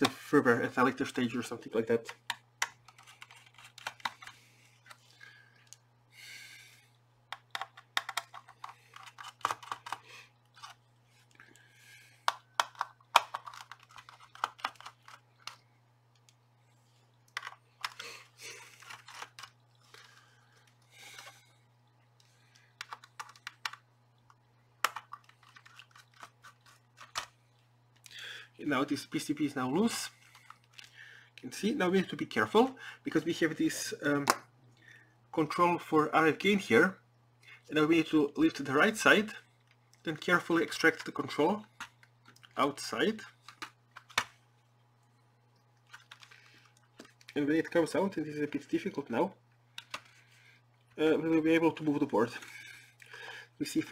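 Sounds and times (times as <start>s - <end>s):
faint low hum: 0.0s - 53.9s.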